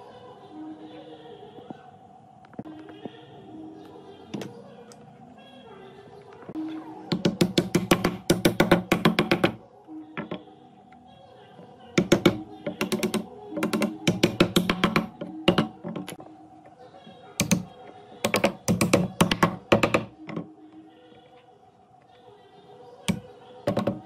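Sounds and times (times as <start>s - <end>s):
faint background music: 0.0s - 24.0s.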